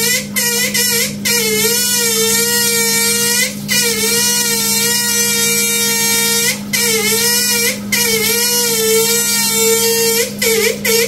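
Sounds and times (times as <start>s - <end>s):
bidet sprayer spraying water: 0.0s - 11.0s
loud wavering whistle: 0.0s - 11.0s.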